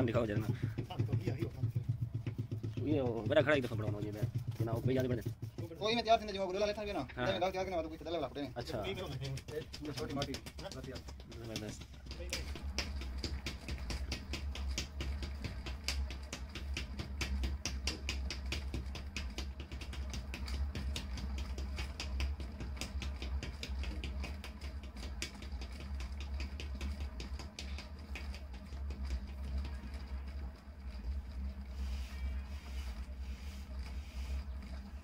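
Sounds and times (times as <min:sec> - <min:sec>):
potter's wheel humming: 0:00.0 - 0:35.0
rapid uneven clicking: 0:00.0 - 0:35.0.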